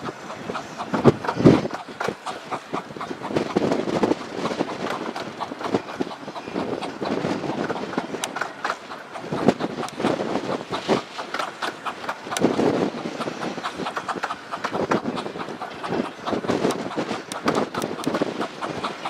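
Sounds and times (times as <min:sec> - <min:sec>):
miniature train rumbling: 0:00.0 - 0:19.0
wheels clicking over rails: 0:00.0 - 0:19.0.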